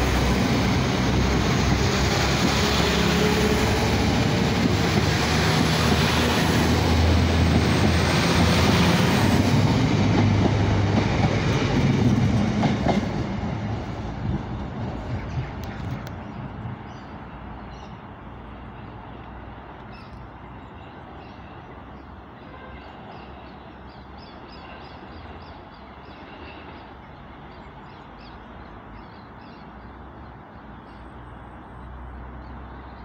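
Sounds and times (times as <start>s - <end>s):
diesel train rumbling away: 0.0s - 33.0s.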